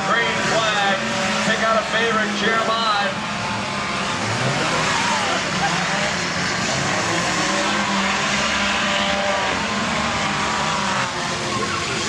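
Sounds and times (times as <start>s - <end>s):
car engines revving: 0.0s - 12.0s
tyres squealing and skidding: 0.0s - 12.0s.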